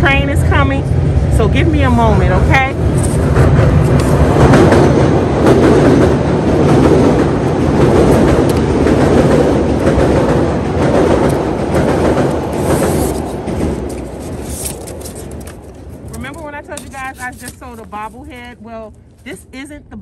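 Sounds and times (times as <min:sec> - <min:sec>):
train rumbling past: 0:00.0 - 0:19.2
wheels clattering on rails: 0:02.8 - 0:18.9.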